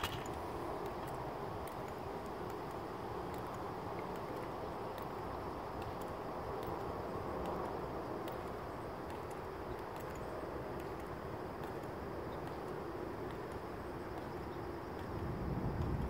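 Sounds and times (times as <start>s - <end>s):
faint ticks: 0.0s - 16.0s.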